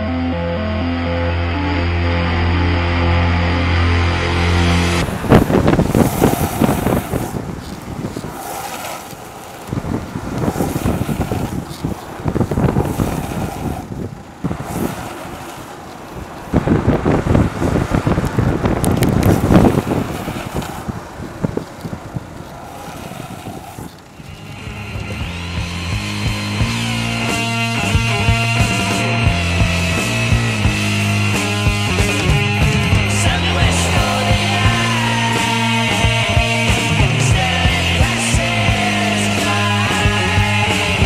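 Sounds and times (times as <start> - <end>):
skateboard wheels rumbling on asphalt: 0.1 - 41.0
wind buffeting microphone: 4.4 - 41.0.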